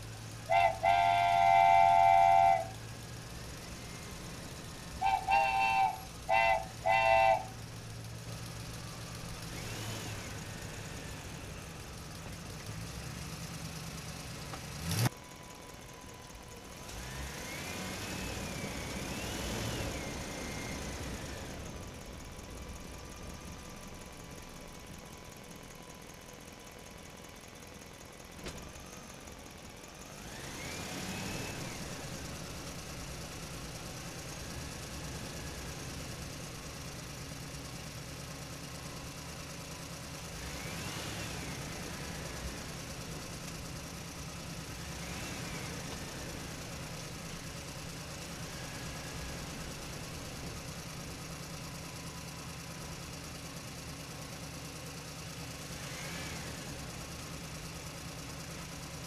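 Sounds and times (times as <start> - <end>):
engine idling and revving: 0.0 - 59.0.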